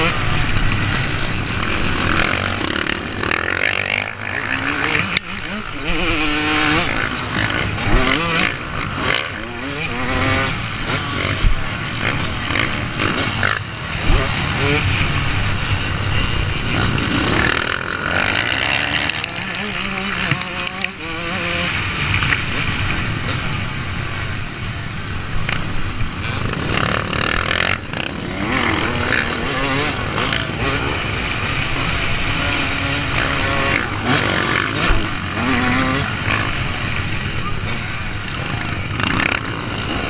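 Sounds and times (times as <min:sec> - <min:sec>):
dirt bike engine revving: 0:00.0 - 0:40.0
other motorbikes nearby: 0:00.0 - 0:40.0.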